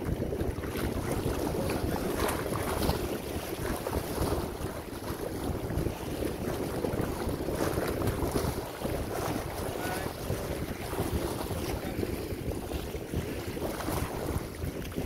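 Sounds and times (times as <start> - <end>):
small waves splashing: 0.0 - 15.0
wind buffeting microphone: 0.0 - 15.0.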